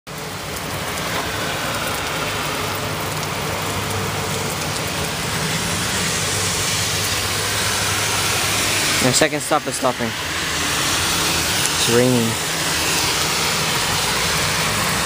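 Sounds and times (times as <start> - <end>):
steady rain falling: 0.1 - 15.0.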